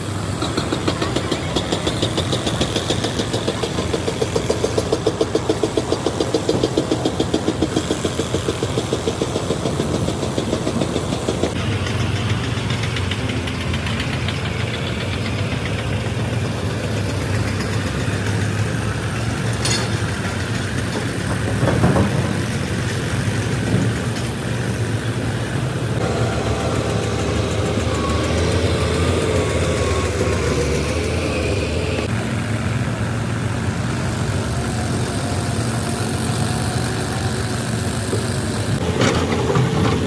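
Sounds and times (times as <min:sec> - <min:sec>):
tractor engine idling: 0:00.0 - 0:40.0.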